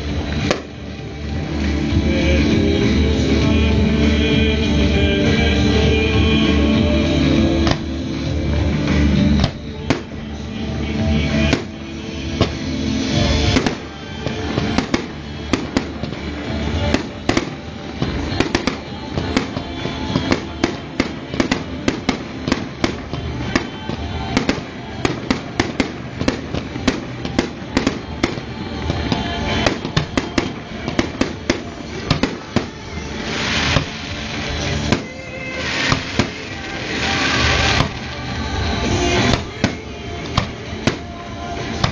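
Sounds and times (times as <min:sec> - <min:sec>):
fireworks bangs and cracks: 0:00.0 - 0:41.9
hissing crackle of fireworks: 0:00.0 - 0:41.9
music: 0:00.0 - 0:41.9.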